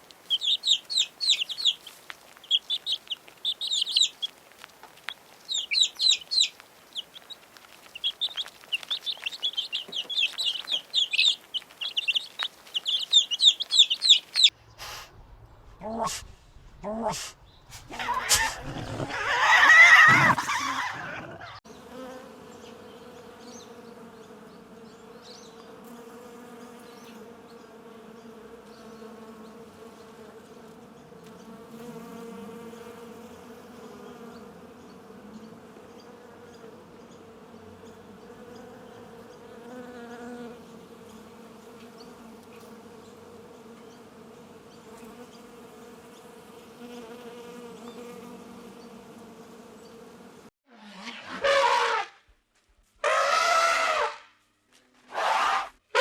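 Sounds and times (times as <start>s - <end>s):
flying insects buzzing: 0.0s - 15.0s, 15.8s - 51.1s.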